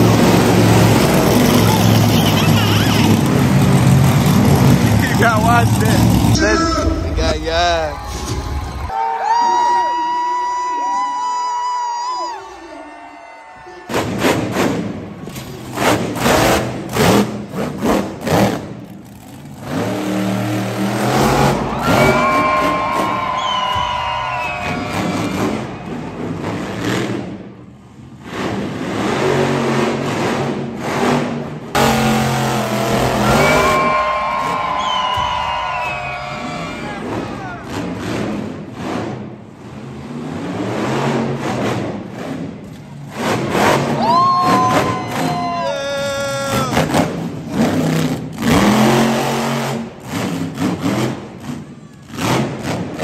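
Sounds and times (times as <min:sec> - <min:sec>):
monster truck engine revving: 0:00.0 - 0:08.9, 0:13.8 - 0:53.0.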